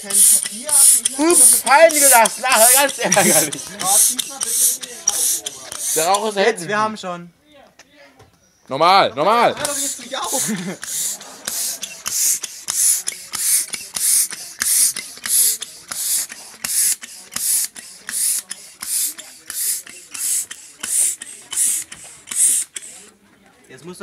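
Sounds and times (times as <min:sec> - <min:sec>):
hand air pump hissing: 0:00.0 - 0:06.8, 0:09.3 - 0:23.2.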